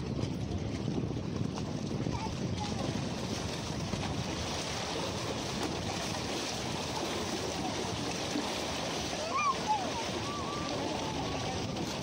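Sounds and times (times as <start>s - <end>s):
sea waves washing: 0.0s - 12.0s
wind on microphone: 0.0s - 12.0s.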